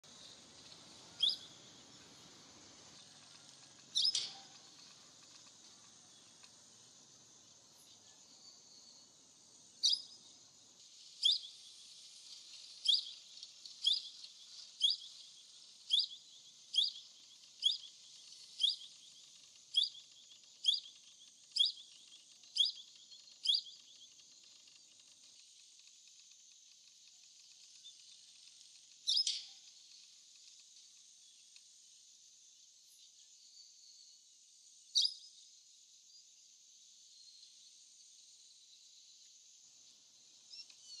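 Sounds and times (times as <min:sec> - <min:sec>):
steady high hiss: 0:00.0 - 0:41.0.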